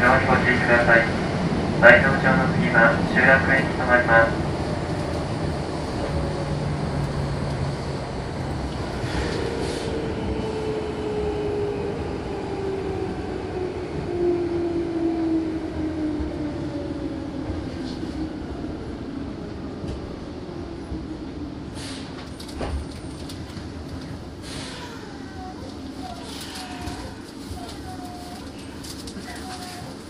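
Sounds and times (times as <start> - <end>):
train running and rail noise: 0.0 - 30.0.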